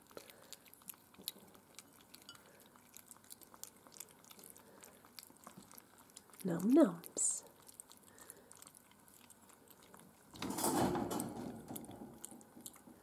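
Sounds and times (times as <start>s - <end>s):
puppies lapping food: 0.0s - 13.0s.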